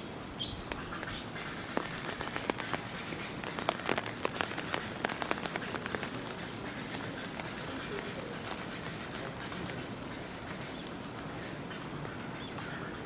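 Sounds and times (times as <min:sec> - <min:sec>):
raindrops clicking close by: 0:00.0 - 0:13.0
steady rain falling: 0:00.0 - 0:13.0.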